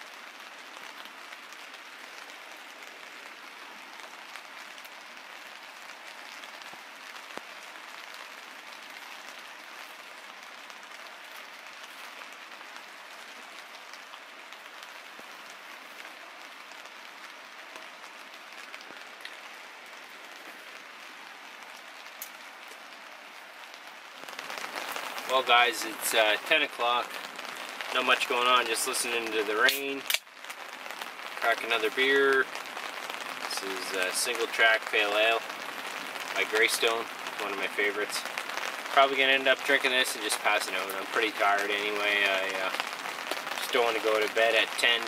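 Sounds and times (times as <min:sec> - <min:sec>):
rain on tent fabric: 0:00.0 - 0:45.0.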